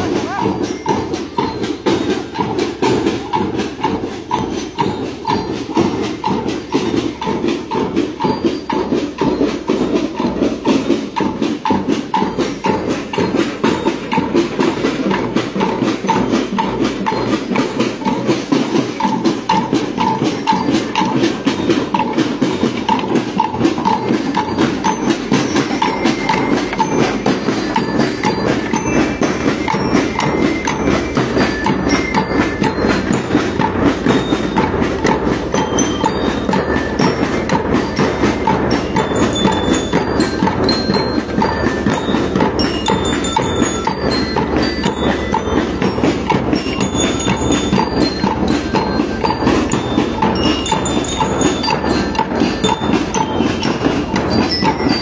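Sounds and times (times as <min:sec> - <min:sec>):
bell lyres ringing: 0:00.0 - 0:55.0
marching band drums: 0:00.0 - 0:55.0.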